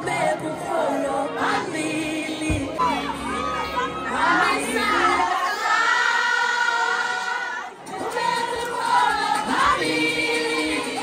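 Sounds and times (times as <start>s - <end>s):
crowd singing along: 0.0s - 11.0s
song over sound system: 0.0s - 11.0s.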